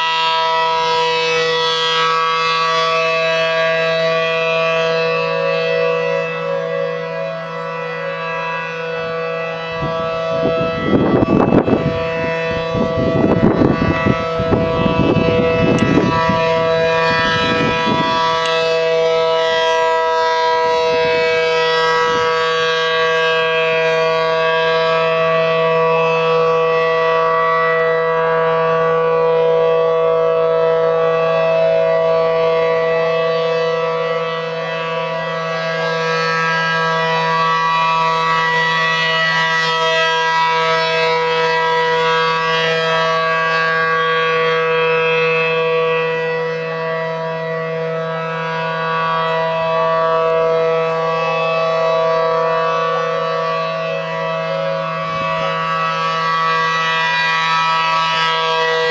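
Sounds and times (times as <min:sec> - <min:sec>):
two-tone warning siren: 0:00.0 - 0:58.9.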